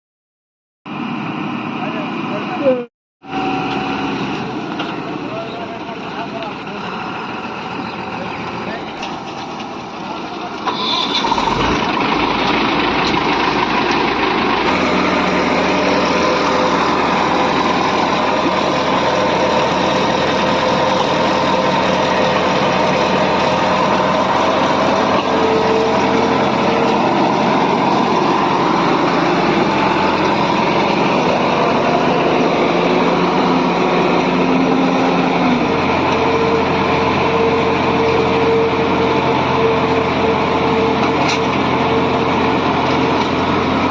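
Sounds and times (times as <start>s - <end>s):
machinery engine running: 0.9s - 43.9s.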